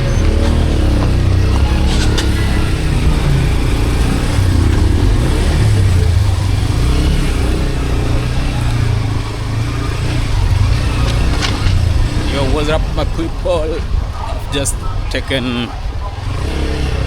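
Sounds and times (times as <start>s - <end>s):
motorcycle engine running: 0.0s - 17.0s
wind rumble on microphone: 0.0s - 17.0s.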